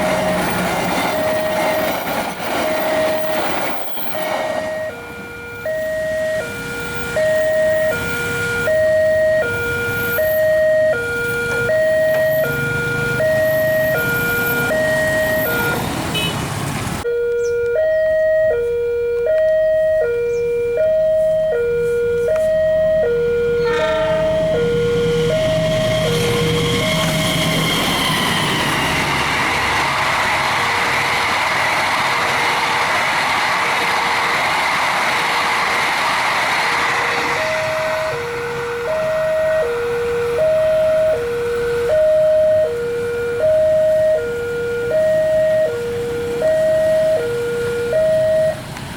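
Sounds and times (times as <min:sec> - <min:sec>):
train passing: 0:00.0 - 0:17.1, 0:17.7 - 0:48.9
two-tone crossing alarm: 0:00.0 - 0:48.8.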